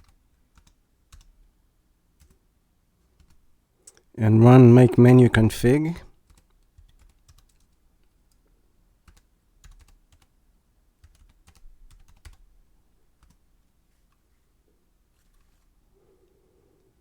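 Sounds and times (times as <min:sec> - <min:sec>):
faint keyboard typing: 0:00.0 - 0:10.4, 0:11.0 - 0:14.5, 0:15.1 - 0:17.0.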